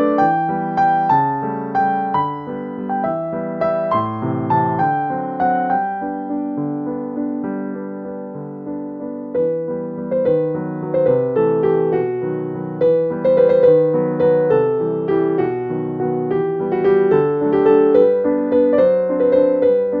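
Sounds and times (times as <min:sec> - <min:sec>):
gentle piano tune: 0:00.0 - 0:20.0.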